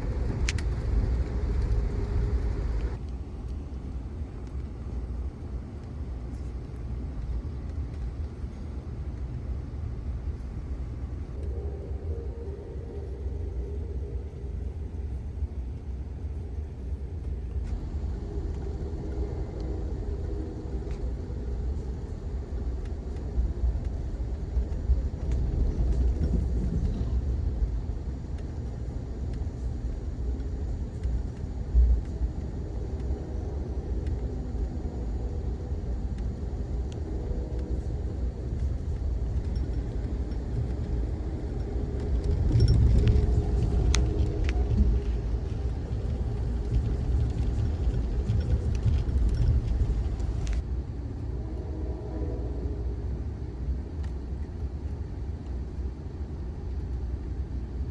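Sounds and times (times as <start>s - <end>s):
train car rumbling on track: 0.0s - 57.9s.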